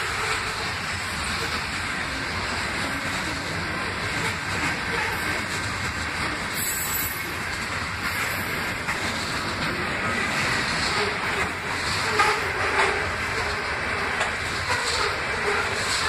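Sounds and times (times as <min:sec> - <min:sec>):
freight train wheels on track: 0:00.0 - 0:16.0
wheels clacking over rail joints: 0:00.0 - 0:16.0.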